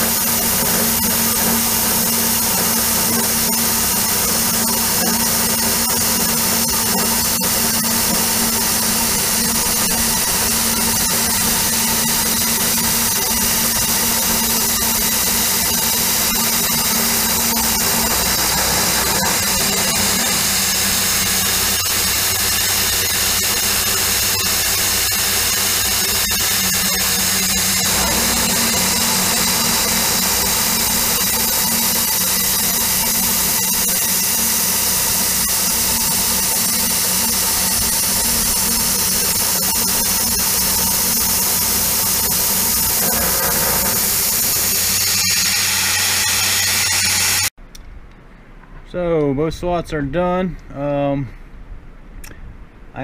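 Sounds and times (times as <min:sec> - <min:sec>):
mist coolant hissing: 0:00.0 - 0:47.5
milling machine cutting: 0:00.0 - 0:47.6.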